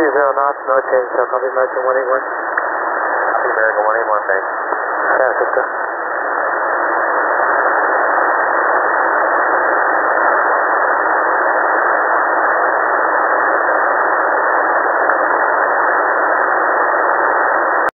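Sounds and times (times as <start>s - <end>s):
radio static hiss: 0.0s - 17.9s.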